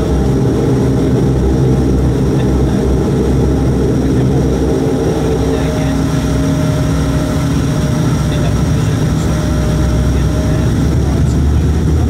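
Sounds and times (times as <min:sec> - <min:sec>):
turboprop engine cabin hum: 0:00.0 - 0:12.0.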